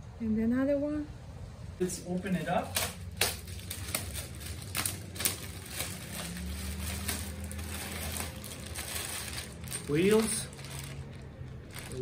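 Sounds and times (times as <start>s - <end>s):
plastic wrap crinkling: 2.2s - 12.0s.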